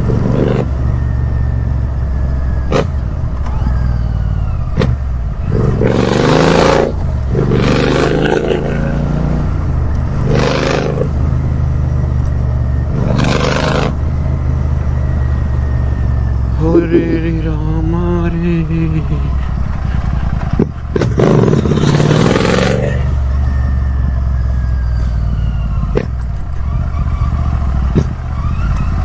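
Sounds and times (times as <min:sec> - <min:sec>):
motorcycle idling and revving: 0:00.0 - 0:29.0
sharp exhaust cracks: 0:00.0 - 0:29.0.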